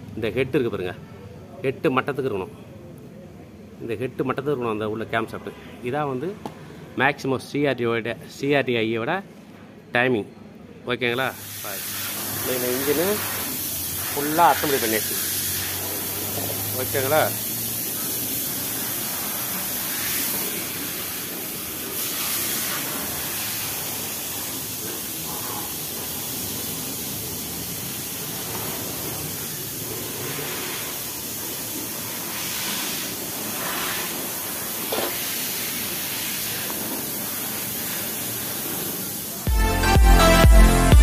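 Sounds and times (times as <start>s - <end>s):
steady hissing noise: 0.0s - 40.0s.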